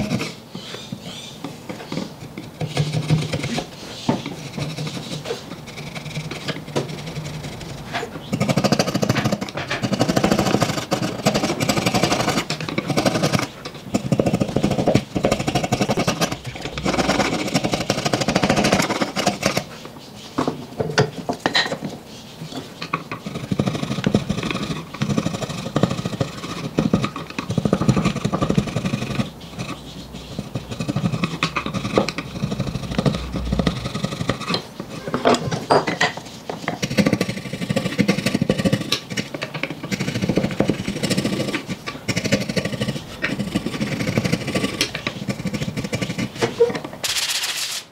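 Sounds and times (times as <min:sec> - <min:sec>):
tools rasping and knocking wood: 0:00.0 - 0:47.6.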